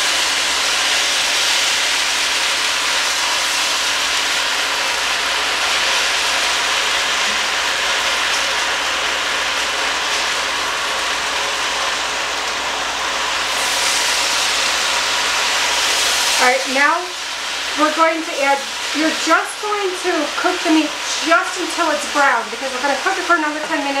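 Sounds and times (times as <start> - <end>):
beef sizzling in a pot: 0.0 - 24.0.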